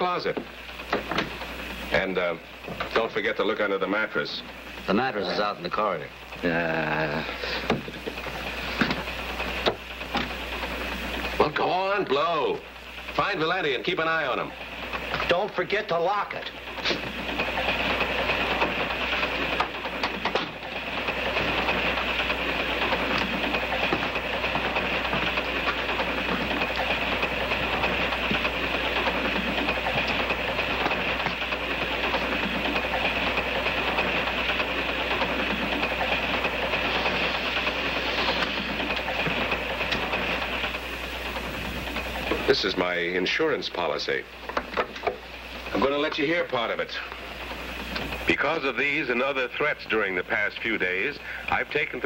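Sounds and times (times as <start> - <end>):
train rolling on rails: 0.0 - 52.0.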